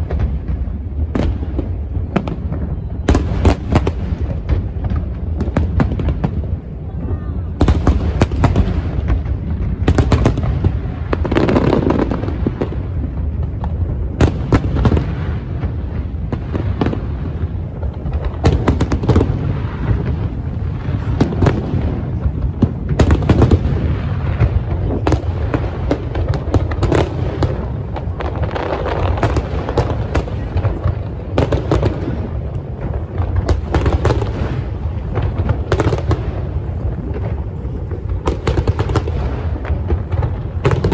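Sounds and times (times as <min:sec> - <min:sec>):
continuous low rumble: 0:00.0 - 0:40.9
fireworks bursting with loud bangs: 0:00.0 - 0:40.9.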